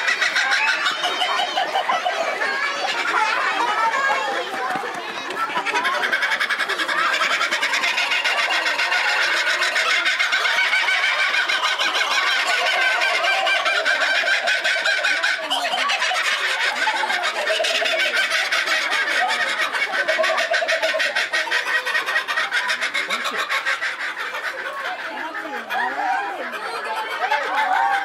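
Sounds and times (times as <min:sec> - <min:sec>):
kookaburras laughing: 0:00.0 - 0:28.0.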